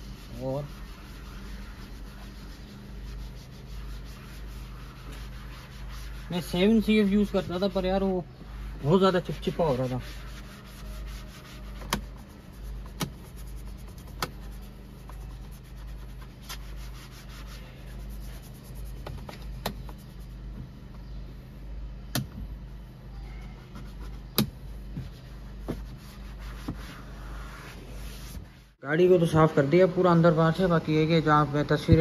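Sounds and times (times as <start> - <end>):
pad scrubbing plastic dashboard: 0.0 - 20.7, 23.4 - 28.8
steady low hum: 0.0 - 32.0.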